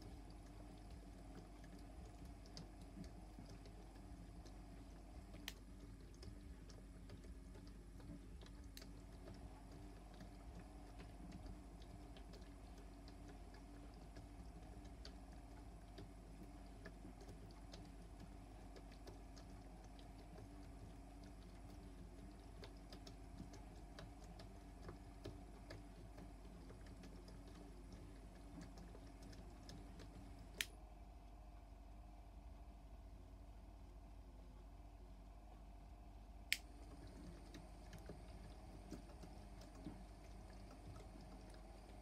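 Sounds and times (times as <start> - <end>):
toy washing machine motor humming: 0.0 - 30.7, 36.7 - 42.0
light clicks and ticks: 0.0 - 30.8, 36.5 - 42.0.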